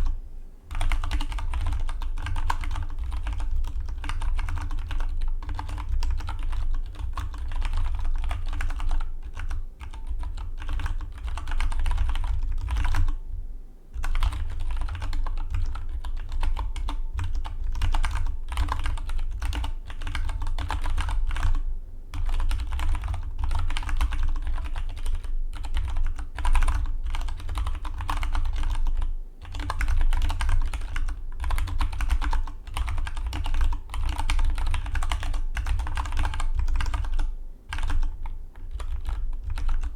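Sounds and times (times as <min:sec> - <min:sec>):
mechanical keyboard typing: 0:00.7 - 0:13.2, 0:14.0 - 0:39.9.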